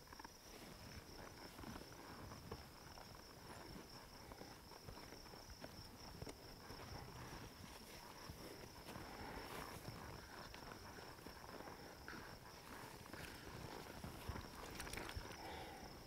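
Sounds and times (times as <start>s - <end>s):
hoof steps on dirt: 0.0s - 16.0s
insect trill: 0.0s - 16.0s.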